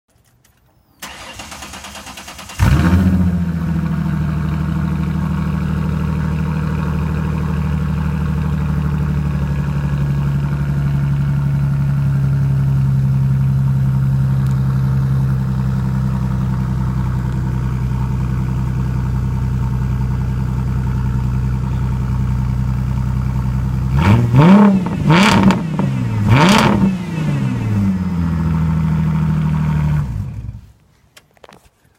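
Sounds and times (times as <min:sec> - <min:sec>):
loud car engine idling: 0:02.6 - 0:30.5.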